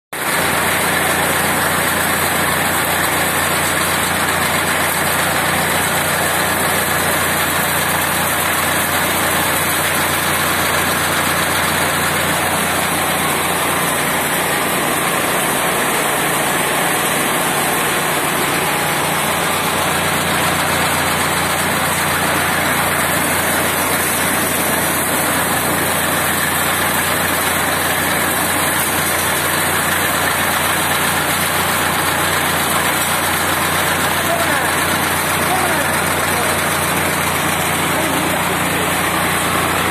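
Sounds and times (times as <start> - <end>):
tractor engine running: 0.1 - 39.9.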